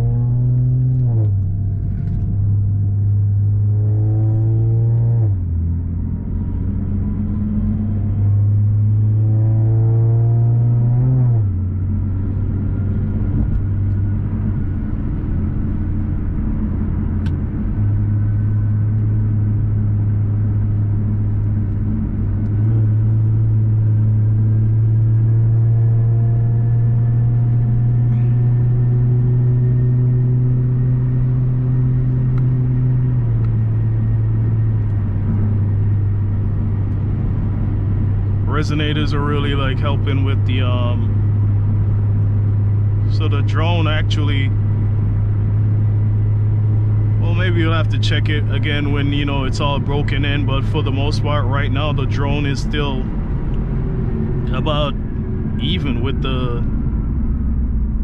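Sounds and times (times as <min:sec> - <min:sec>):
low exhaust drone: 0:00.0 - 0:58.0.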